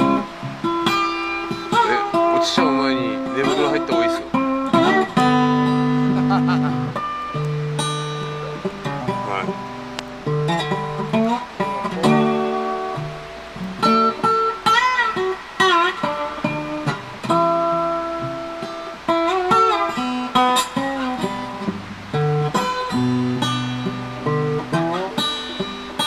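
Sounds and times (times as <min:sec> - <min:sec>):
solo guitar picking: 0:00.0 - 0:26.0.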